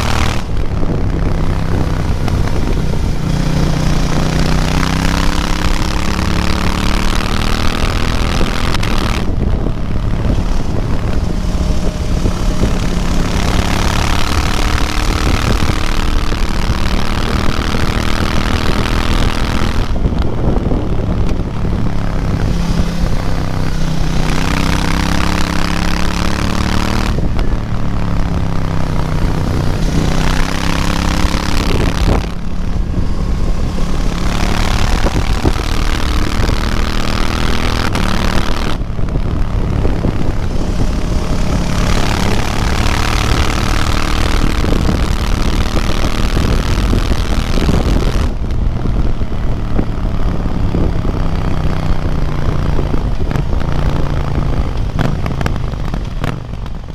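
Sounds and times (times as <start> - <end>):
motorcycle engine revving: 0.0 - 56.9
rushing wind hiss: 0.0 - 56.9.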